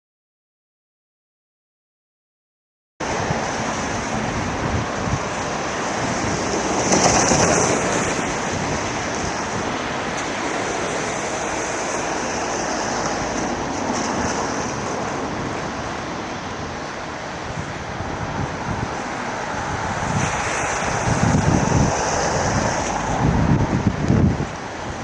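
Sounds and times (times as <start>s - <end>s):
rushing floodwater: 3.0s - 25.0s.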